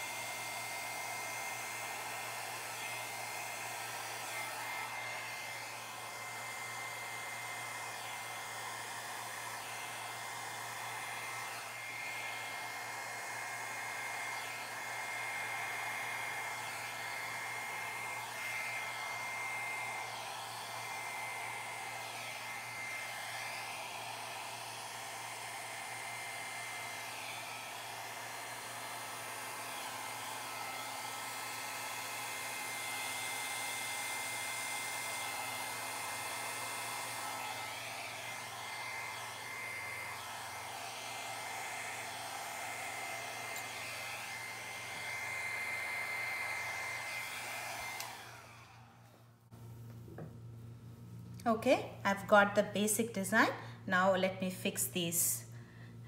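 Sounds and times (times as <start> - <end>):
hair dryer running: 0.0 - 50.6, 51.3 - 56.0.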